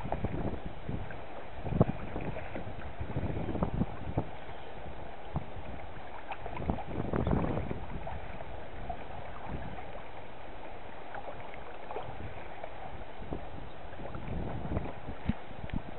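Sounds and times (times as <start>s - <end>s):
small waves lapping against hull: 0.0s - 15.9s
wind rumbling on microphone: 0.0s - 15.9s.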